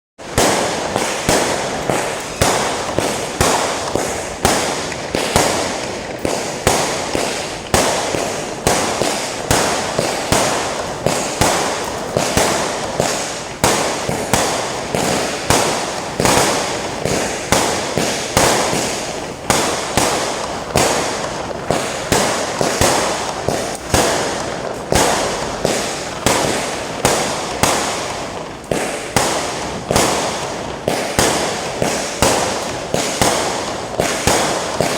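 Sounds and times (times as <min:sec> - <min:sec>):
fireworks bangs: 0:00.2 - 0:34.9
fireworks crackle: 0:00.2 - 0:34.9.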